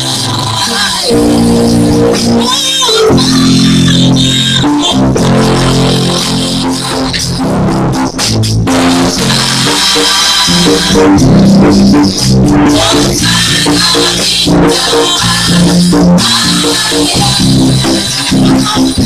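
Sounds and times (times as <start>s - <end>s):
bass line: 0.0s - 19.0s
drums: 0.0s - 19.0s
keyboard or guitar chords: 0.0s - 19.0s.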